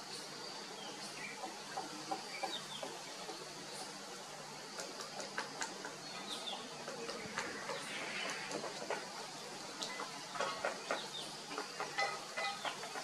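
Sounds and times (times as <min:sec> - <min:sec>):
woodpecker tapping on bark: 0:01.3 - 0:13.0.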